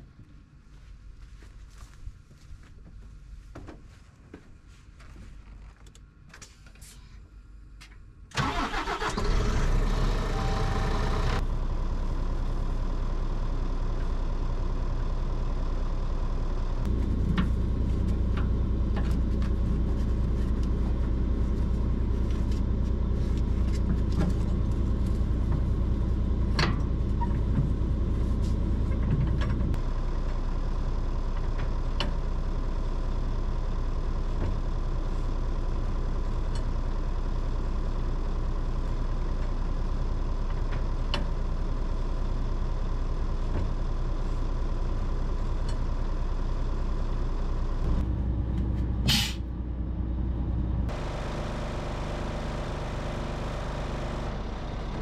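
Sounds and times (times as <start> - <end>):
truck diesel engine starting: 8.3 - 55.0
diesel engine idling: 8.4 - 55.0.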